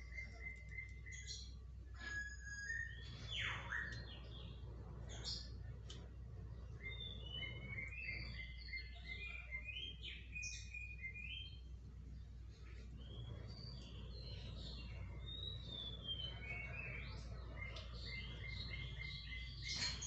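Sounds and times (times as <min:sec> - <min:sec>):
birds chirping and whistling: 0:00.0 - 0:20.0.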